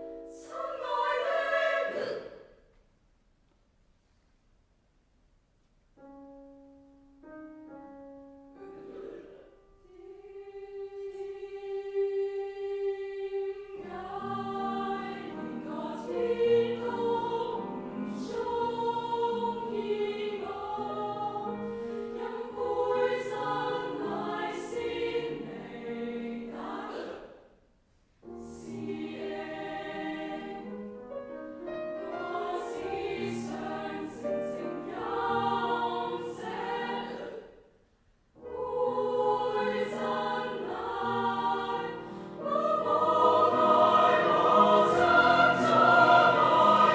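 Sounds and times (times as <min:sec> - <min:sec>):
choir singing: 0:00.0 - 0:02.6, 0:08.7 - 0:27.6, 0:28.2 - 0:37.7, 0:38.4 - 0:46.9.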